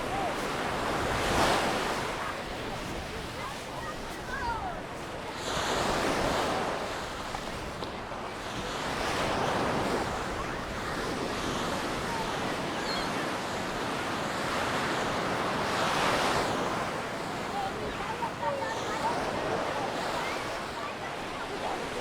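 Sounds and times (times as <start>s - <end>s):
surf breaking on a sand beach: 0.0s - 22.0s.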